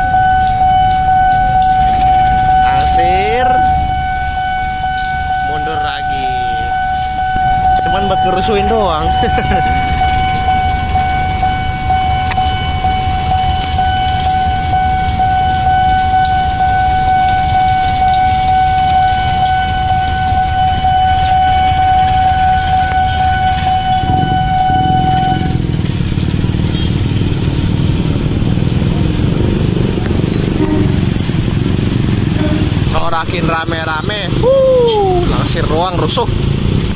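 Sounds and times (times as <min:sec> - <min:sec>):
diesel locomotive rumble: 0:00.0 - 0:36.9
level crossing warning alarm: 0:00.0 - 0:36.9
motorcycle engines: 0:00.0 - 0:36.9.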